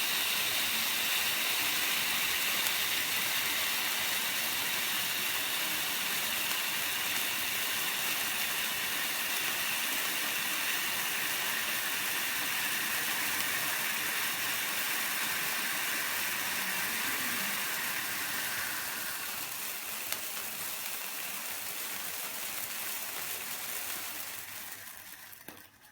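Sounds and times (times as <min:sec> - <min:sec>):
fountain fireworks spraying hiss: 0:00.0 - 0:25.6.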